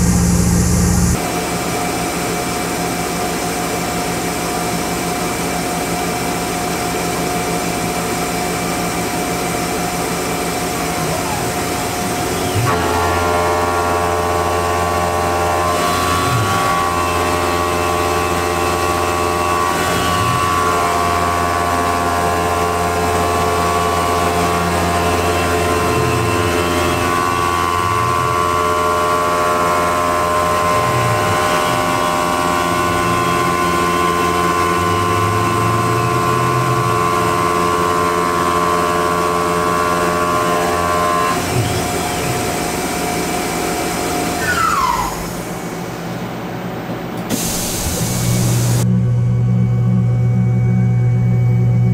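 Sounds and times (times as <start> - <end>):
milling machine cutting whine: 0.0 - 51.9.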